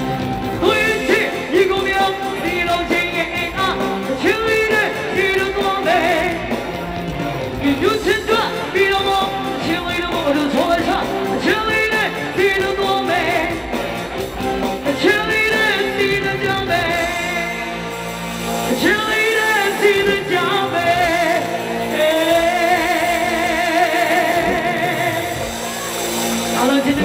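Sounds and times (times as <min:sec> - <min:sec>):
woman singing pop song: 0:00.6 - 0:06.7, 0:07.6 - 0:13.8, 0:14.9 - 0:17.7, 0:18.7 - 0:25.9, 0:26.5 - 0:27.0.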